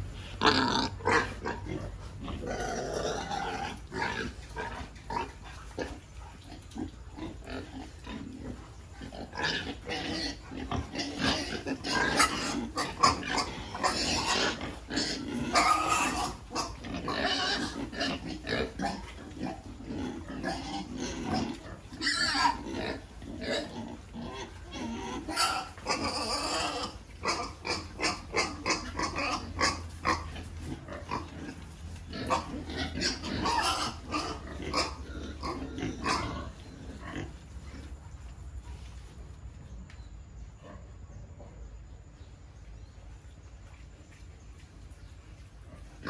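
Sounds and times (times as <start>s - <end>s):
pigs grunting and squealing: 0.0s - 38.2s.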